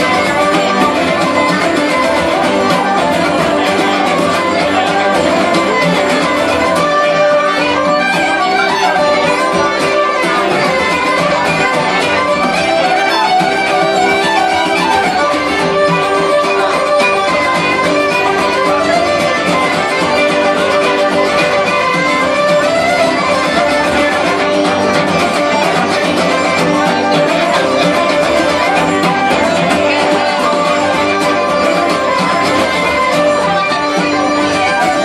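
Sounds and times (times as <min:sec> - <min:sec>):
bodhran drum: 0:00.0 - 0:35.0
fiddle melody: 0:00.0 - 0:35.0
strummed acoustic guitar: 0:00.0 - 0:35.0
uilleann pipes: 0:00.0 - 0:35.0.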